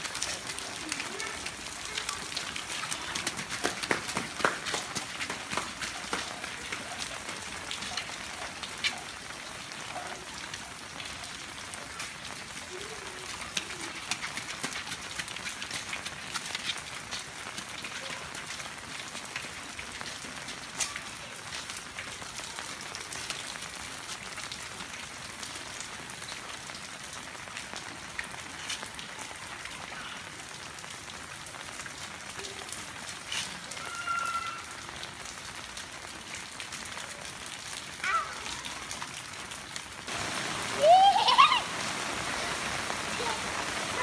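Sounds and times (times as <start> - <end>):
raindrops tapping surfaces: 0.0 - 44.0
steady rain: 0.0 - 44.0.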